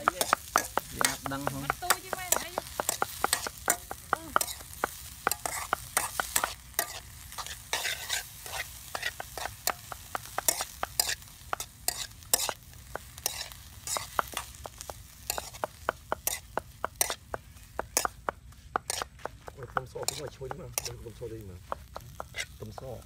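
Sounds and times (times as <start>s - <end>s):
light frying sizzle: 0.0s - 23.0s
spoon scraping steel wok: 0.0s - 23.0s.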